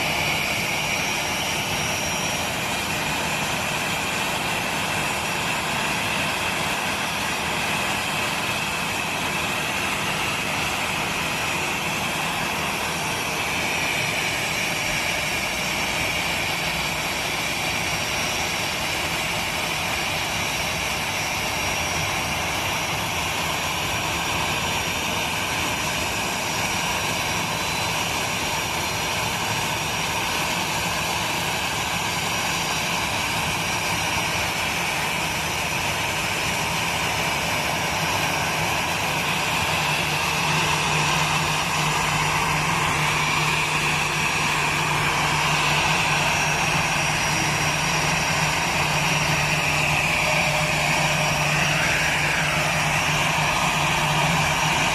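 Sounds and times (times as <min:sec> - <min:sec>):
jet airliner whine and rush: 0:00.0 - 0:54.9.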